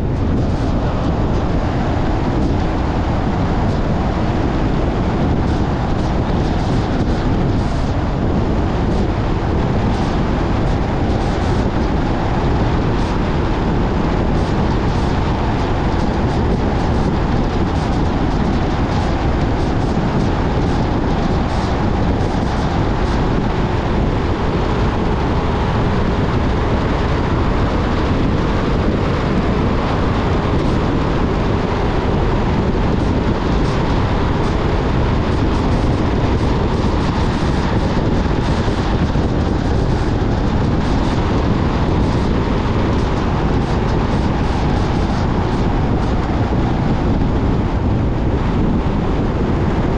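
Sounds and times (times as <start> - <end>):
car road and wind noise: 0.0 - 49.9.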